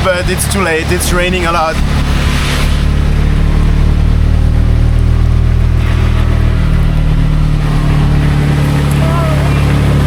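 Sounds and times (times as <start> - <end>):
auto-rickshaw engine running: 0.0 - 10.0
heavy rain falling: 0.0 - 10.0.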